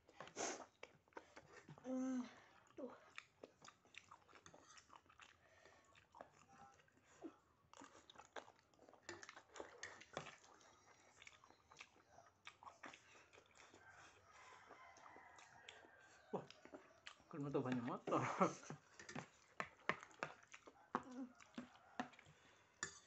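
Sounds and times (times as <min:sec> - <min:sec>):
person chewing noodles: 0:00.0 - 0:23.0.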